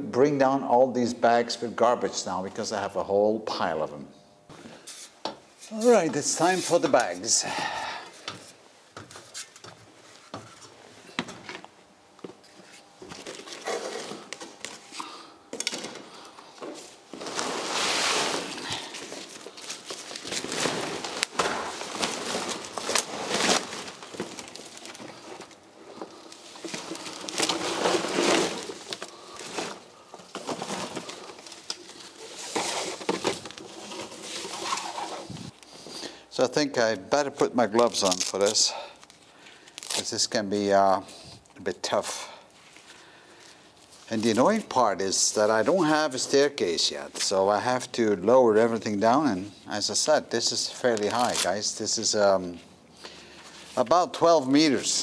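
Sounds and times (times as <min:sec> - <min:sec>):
plastic bags rustling and scraping: 0:04.6 - 0:11.2, 0:12.4 - 0:36.2, 0:37.6 - 0:40.3, 0:40.9 - 0:47.9, 0:48.8 - 0:52.6.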